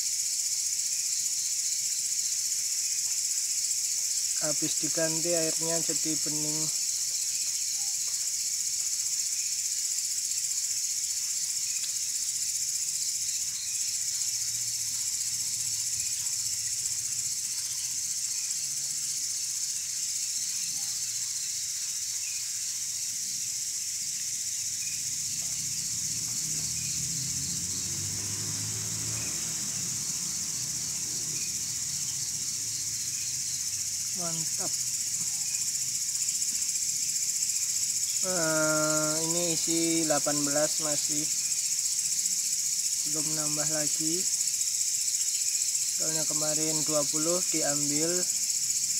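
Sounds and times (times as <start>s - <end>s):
crickets trilling: 0.0s - 48.9s
insect chirps: 0.0s - 48.9s.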